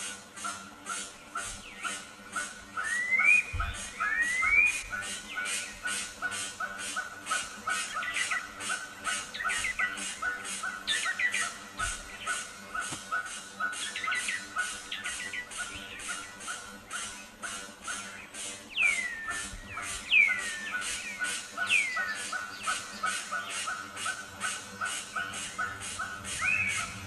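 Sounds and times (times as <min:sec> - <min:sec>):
small birds chirping: 0:00.4 - 0:27.0
rising whistled bird calls: 0:00.9 - 0:27.0.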